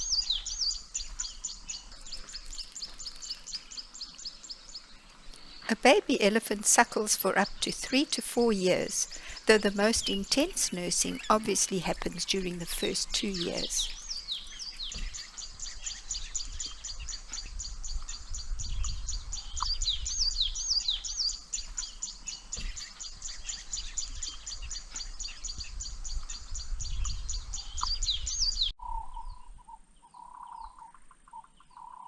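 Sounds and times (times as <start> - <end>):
birds chirping and whistling: 0.0 - 5.8, 6.4 - 32.0
low wind rumble: 3.9 - 30.8.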